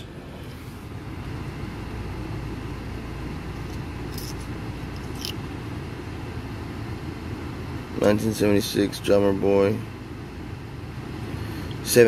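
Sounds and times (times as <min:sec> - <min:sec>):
car cabin hum: 0:00.0 - 0:10.8.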